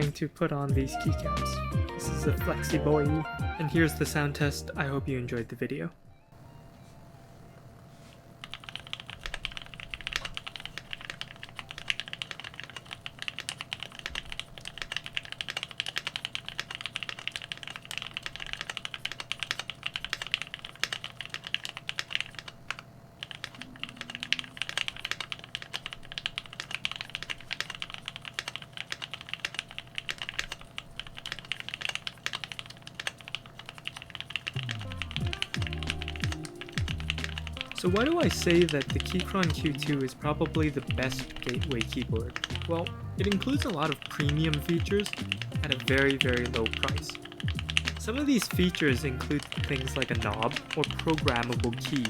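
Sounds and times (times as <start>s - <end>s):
fast typing on mechanical keyboard: 8.4s - 52.0s.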